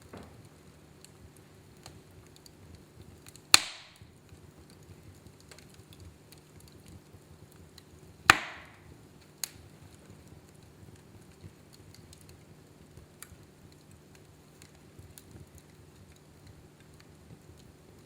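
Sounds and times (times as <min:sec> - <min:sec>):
burning logs popping: 0:00.0 - 0:18.0
faint fire crackle: 0:00.0 - 0:18.0.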